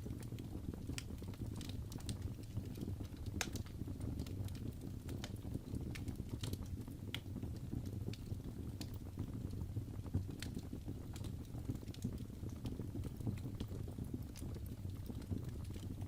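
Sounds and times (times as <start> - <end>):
fire crackles and pops: 0.0 - 16.0
fire low rumble: 0.0 - 16.0.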